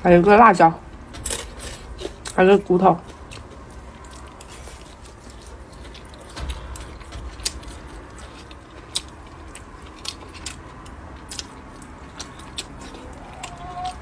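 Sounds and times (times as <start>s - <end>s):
person chewing and crunching food: 0.9s - 14.0s.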